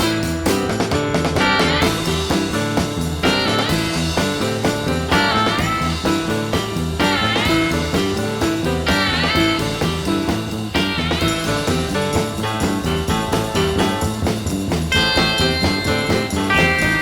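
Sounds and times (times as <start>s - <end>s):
instrumental music with bass line: 0.0s - 17.0s.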